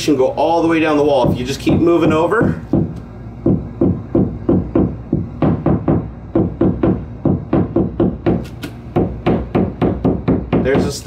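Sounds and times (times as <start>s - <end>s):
hammer tapping on drywall: 1.2s - 11.0s.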